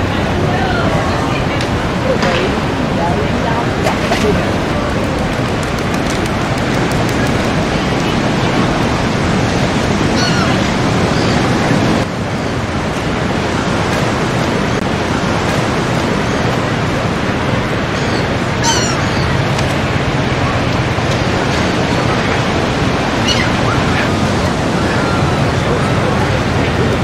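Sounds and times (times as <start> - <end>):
ocean surf washing: 0.0 - 27.0
wind on microphone: 0.0 - 27.0.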